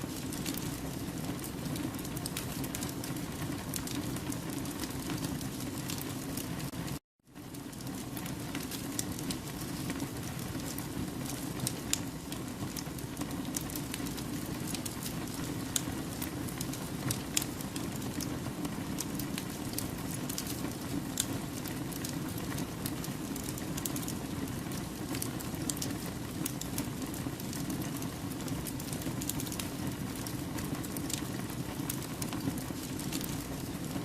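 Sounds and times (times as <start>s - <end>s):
campfire flames rushing: 0.0s - 6.8s, 7.4s - 34.0s
burning logs crackling and popping: 0.0s - 34.0s.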